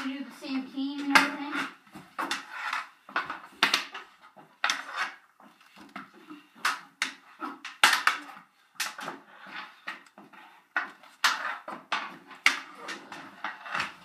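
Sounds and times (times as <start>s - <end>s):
hockey sticks clacking on floor: 0.0s - 14.0s.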